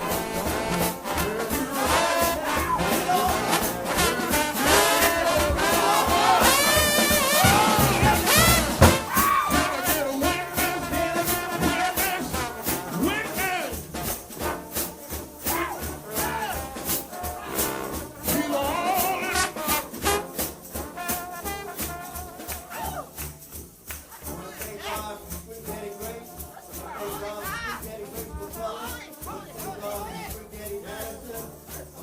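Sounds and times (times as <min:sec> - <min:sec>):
brass band playing gospel tune: 0:00.0 - 0:32.0
steady drum beat: 0:00.0 - 0:32.0.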